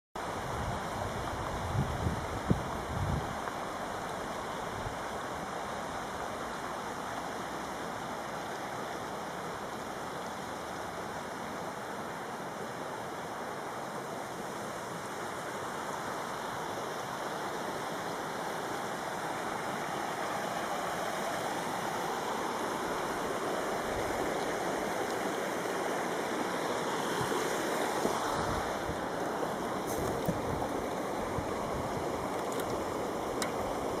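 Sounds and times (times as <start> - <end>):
running water rushing: 0.2 - 34.0.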